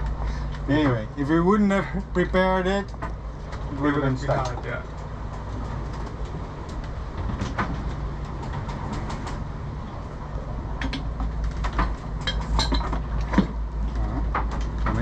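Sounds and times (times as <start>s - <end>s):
low machinery rumble: 0.0s - 15.0s.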